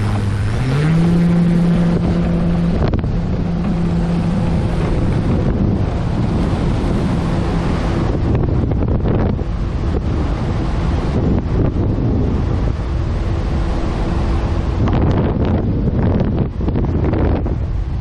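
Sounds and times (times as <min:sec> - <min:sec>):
model airplane propeller drone: 0:00.0 - 0:18.0
wind rush on microphone: 0:00.0 - 0:18.0.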